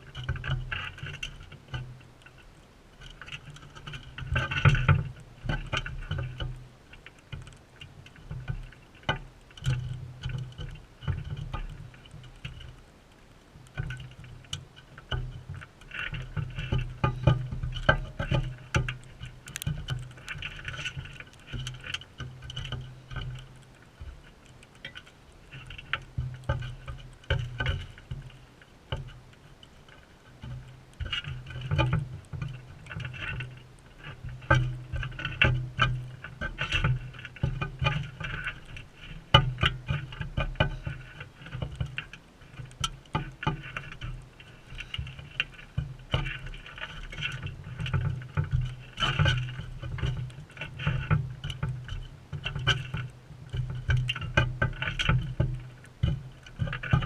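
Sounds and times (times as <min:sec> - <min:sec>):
parrots tapping and scrabbling: 0:00.0 - 0:12.8, 0:13.6 - 0:57.0.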